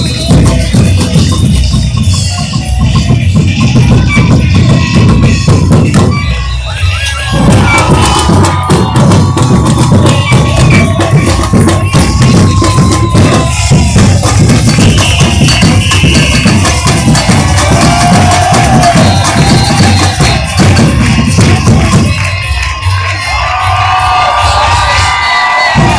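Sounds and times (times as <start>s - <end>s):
drum section playing: 0.0s - 25.9s.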